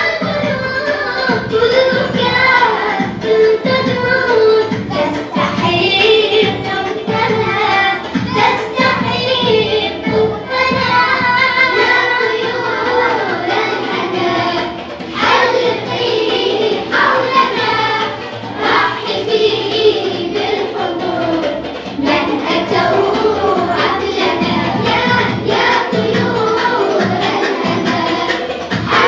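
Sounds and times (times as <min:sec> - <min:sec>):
children singing: 0:00.0 - 0:29.0.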